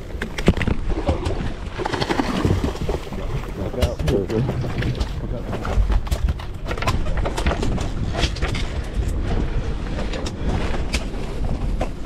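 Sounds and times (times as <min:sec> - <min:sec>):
boat at sea: 0:00.0 - 0:12.0
fishing gear clicking and knocking: 0:00.0 - 0:12.0
wind rumbling on microphone: 0:00.0 - 0:12.0.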